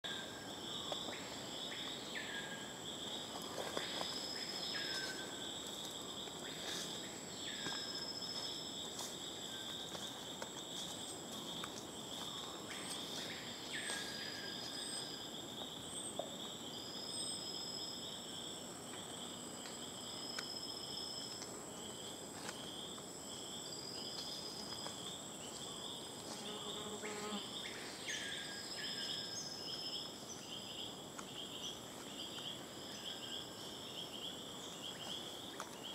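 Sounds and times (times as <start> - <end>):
insects buzzing trill: 0.0 - 35.9.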